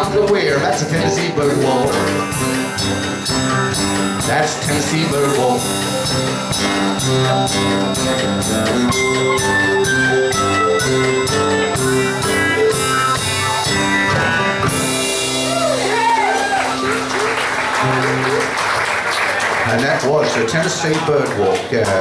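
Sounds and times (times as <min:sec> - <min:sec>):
country band playing: 0:00.0 - 0:22.0.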